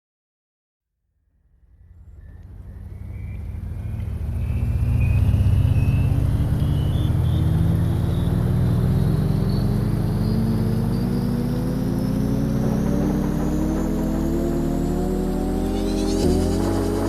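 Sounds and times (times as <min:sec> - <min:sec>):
high whine: 0:01.6 - 0:17.0.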